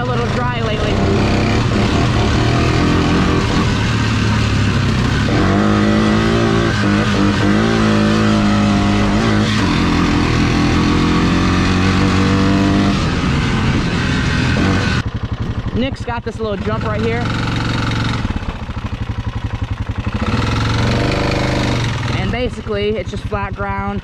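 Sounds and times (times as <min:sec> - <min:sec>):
four-wheeler engine running: 0:00.0 - 0:24.0.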